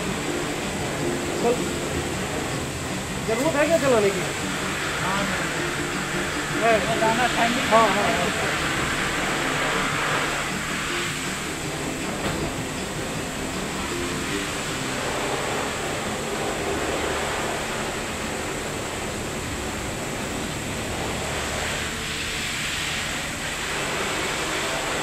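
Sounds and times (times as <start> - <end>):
steady background noise with hum: 0.0 - 25.0.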